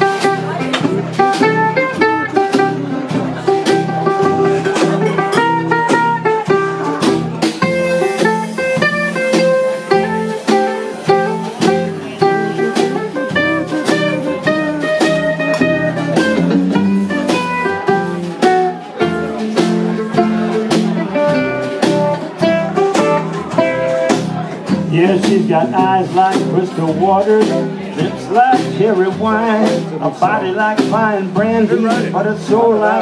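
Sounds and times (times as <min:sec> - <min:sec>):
acoustic blues guitars: 0:00.0 - 0:33.0.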